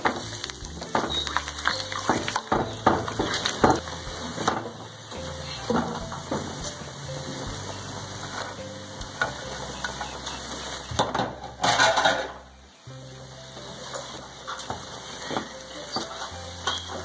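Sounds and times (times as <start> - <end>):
rice sizzling in a pan: 0.0 - 17.0.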